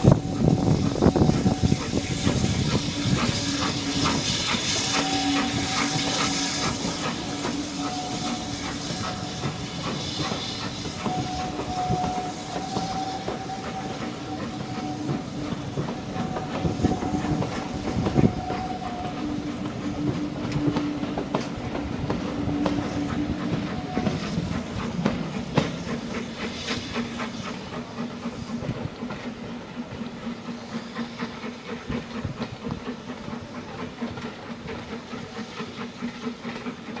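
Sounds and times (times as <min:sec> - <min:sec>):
train wheels clicking over rails: 0:00.0 - 0:37.0.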